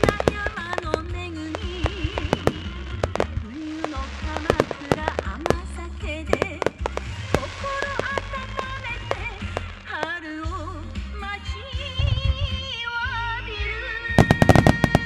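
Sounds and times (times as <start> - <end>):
fireworks bangs and crackling: 0.0 - 11.5, 14.2 - 15.0
woman singing song with bass: 0.0 - 15.0.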